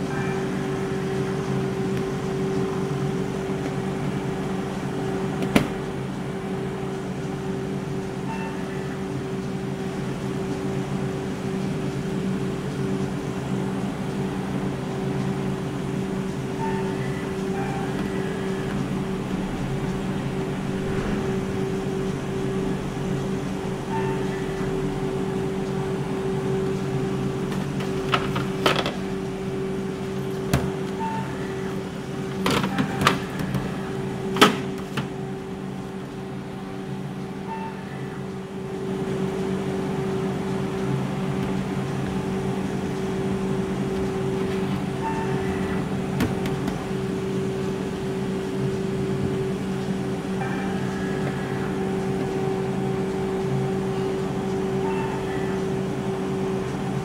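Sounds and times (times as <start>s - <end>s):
ice cream machine humming: 0.0s - 57.0s.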